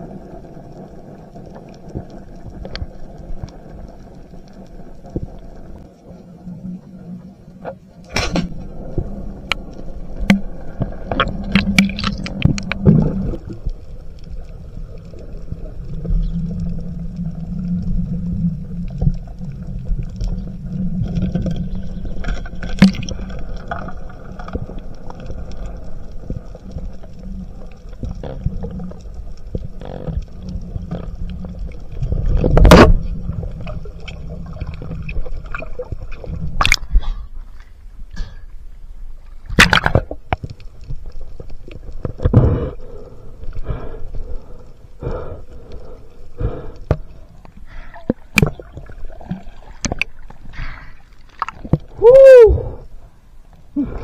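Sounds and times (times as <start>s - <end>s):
underwater water rumble: 0.0s - 54.0s.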